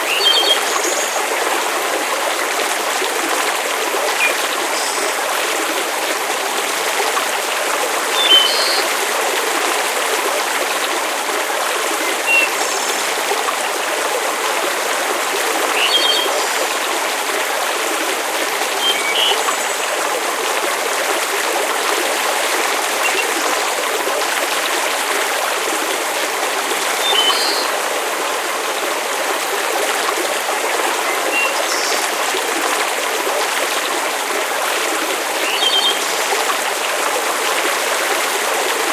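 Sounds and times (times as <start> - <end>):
rushing hiss of water or rain: 0.0 - 38.9.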